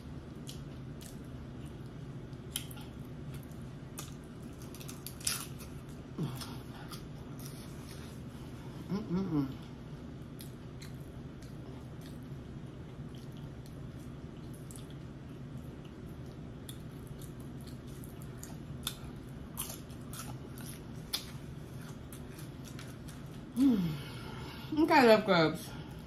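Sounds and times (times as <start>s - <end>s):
steady low hum: 0.0s - 26.0s
wet chewing and mouth smacks: 0.3s - 8.0s, 10.3s - 23.5s.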